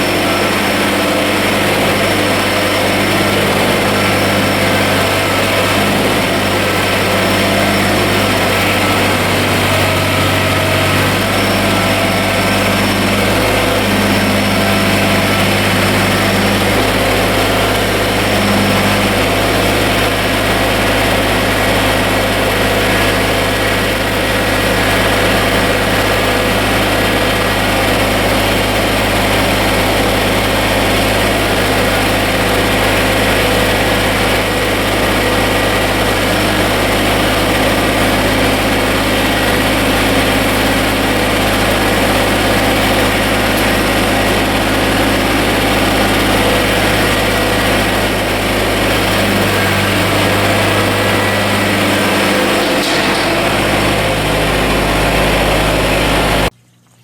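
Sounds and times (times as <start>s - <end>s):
tractor diesel engine idling: 0.0s - 56.5s.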